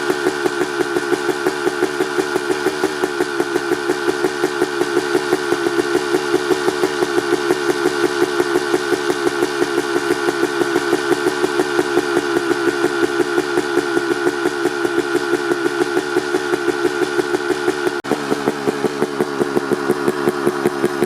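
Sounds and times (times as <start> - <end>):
two-stroke engine idling: 0.0 - 21.0.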